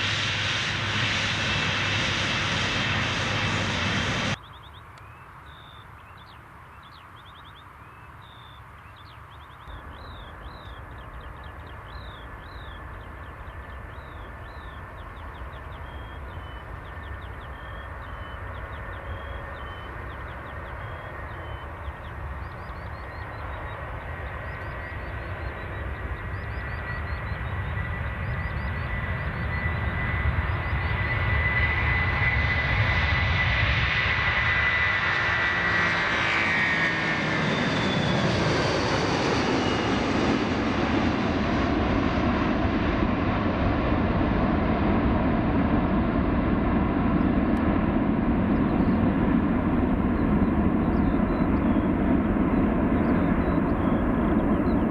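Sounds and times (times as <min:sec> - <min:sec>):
jet airliner passing overhead: 0:00.0 - 0:54.9.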